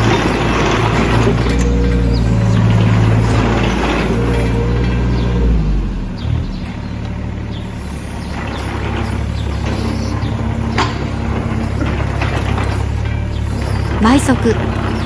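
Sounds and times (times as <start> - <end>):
mini excavator diesel engine: 0.0 - 15.0.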